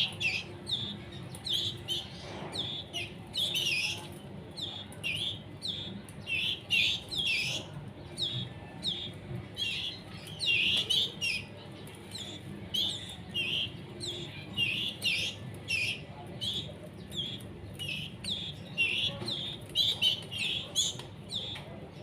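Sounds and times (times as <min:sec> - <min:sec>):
young canaries chirping: 0:00.0 - 0:22.0.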